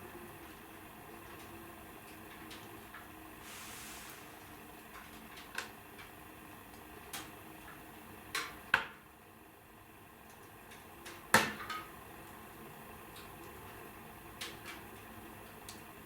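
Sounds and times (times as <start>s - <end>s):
wood fire crackling: 0.0s - 8.8s, 9.6s - 16.0s.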